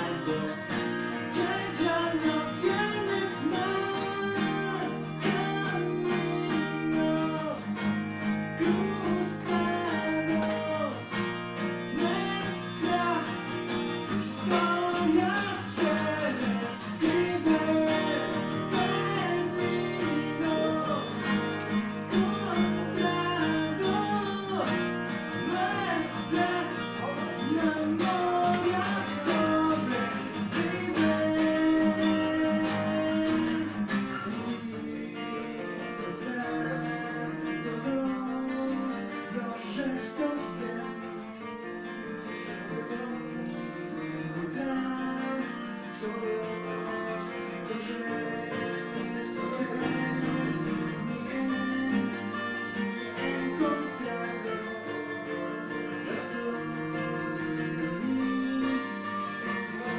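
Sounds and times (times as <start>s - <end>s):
two acoustic guitars playing: 0.0s - 59.9s.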